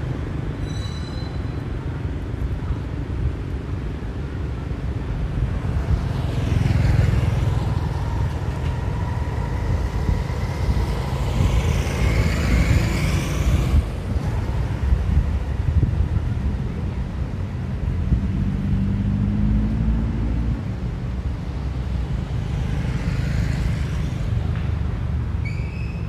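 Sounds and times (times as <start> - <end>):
low traffic rumble: 0.0 - 26.0
vehicles driving past: 0.0 - 26.0.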